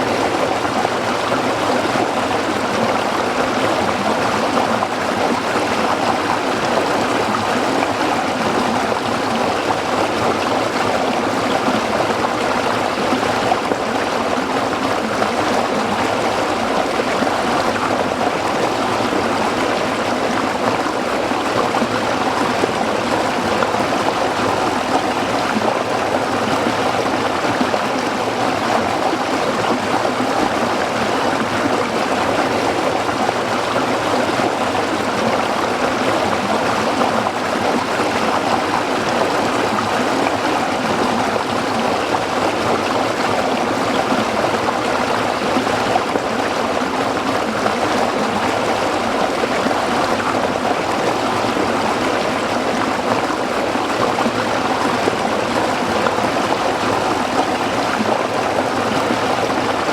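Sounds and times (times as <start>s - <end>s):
stream splashing over rocks: 0.1s - 59.9s.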